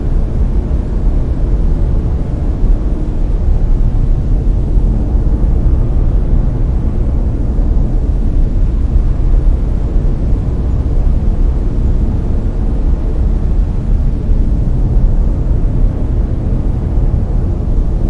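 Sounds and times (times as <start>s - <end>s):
loud brown noise: 0.0s - 18.0s.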